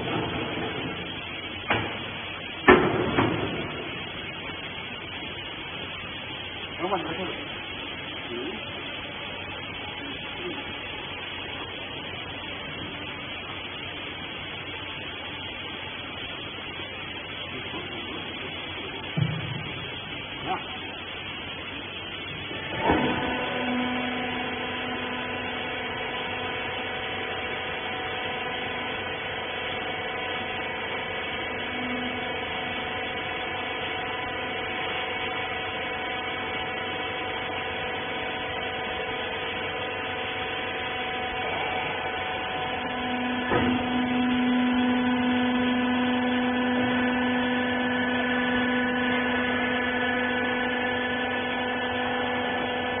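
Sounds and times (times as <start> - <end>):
hydraulic power unit whining: 0.0 - 53.0.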